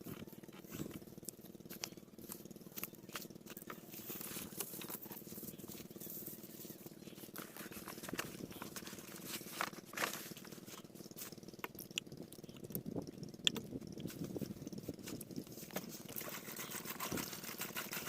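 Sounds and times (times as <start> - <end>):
diesel pump engine running: 0.0 - 18.0.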